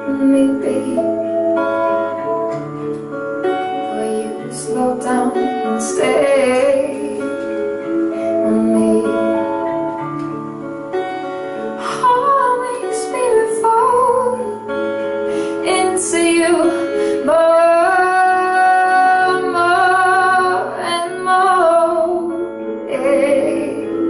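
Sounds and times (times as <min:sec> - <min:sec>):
woman singing a slow song: 0:00.0 - 0:01.8, 0:03.8 - 0:10.1, 0:11.8 - 0:24.0
acoustic guitar: 0:00.0 - 0:24.0
keyboard: 0:00.0 - 0:24.0.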